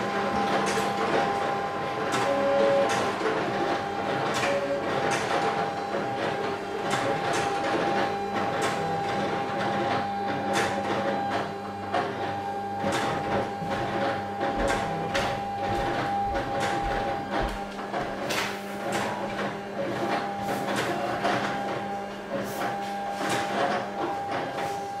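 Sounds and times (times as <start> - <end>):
machine motor whine: 0.0 - 25.0.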